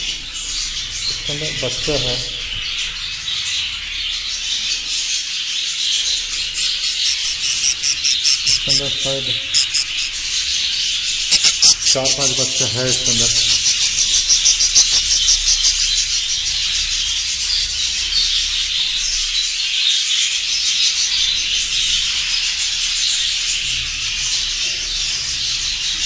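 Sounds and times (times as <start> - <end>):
many small parrots calling: 0.0 - 26.0.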